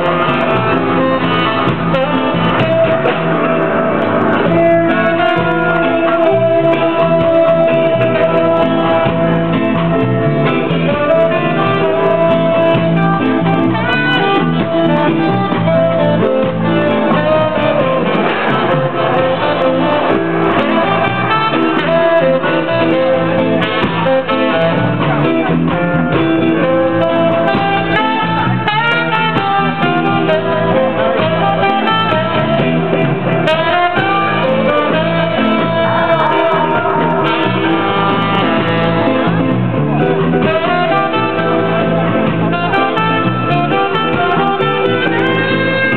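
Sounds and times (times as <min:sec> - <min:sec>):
plucked guitar music: 0:00.0 - 0:45.9.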